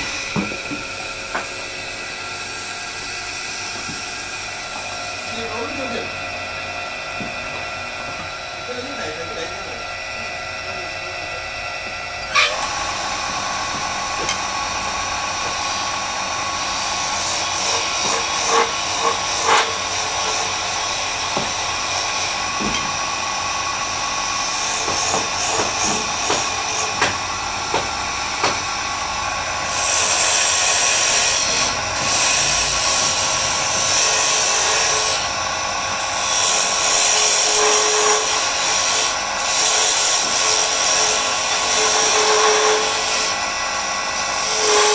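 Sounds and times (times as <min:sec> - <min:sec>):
wood lathe running: 0:00.0 - 0:44.9
chisel scraping spinning wood: 0:07.2 - 0:43.4, 0:44.1 - 0:44.9.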